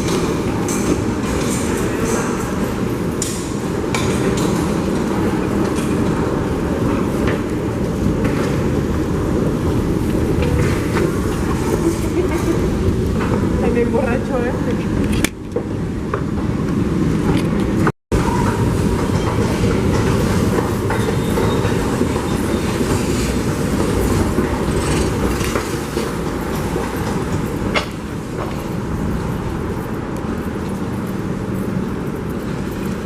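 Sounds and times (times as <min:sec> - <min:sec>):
subway train rumbling on rails: 0:00.0 - 0:33.0
wheels clattering over track: 0:00.0 - 0:33.0.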